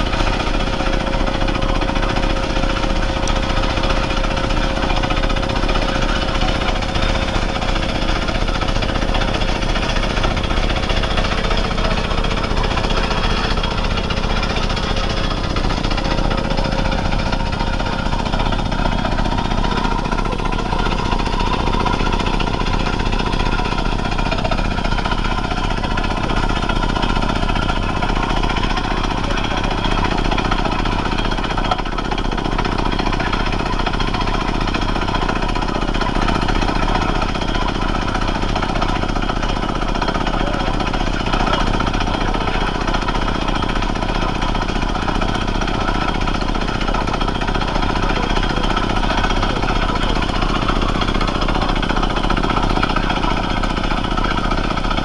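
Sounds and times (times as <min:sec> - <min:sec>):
pneumatic drill hammering rock: 0:00.0 - 0:55.0.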